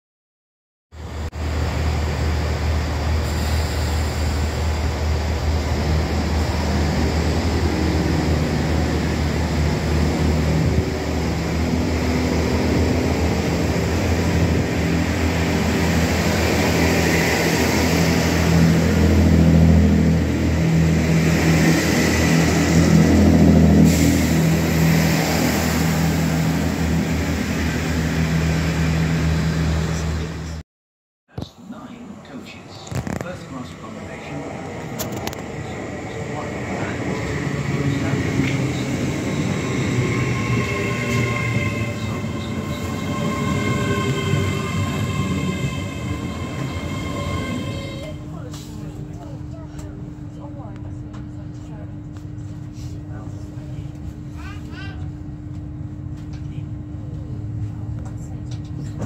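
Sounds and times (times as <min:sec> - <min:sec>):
diesel train engines: 0:01.0 - 0:30.6, 0:31.4 - 0:59.0.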